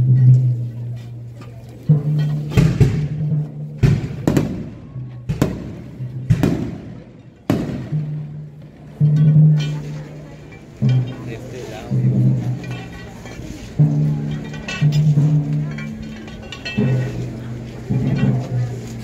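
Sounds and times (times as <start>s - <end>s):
drum and cymbal strokes: 0.0s - 19.0s.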